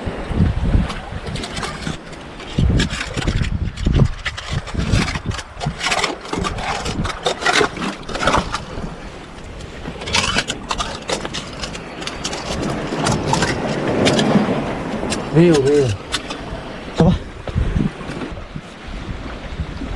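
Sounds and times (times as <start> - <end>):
wind buffeting microphone: 0.0 - 19.9
scrapes and knocks against rocks: 0.8 - 18.4.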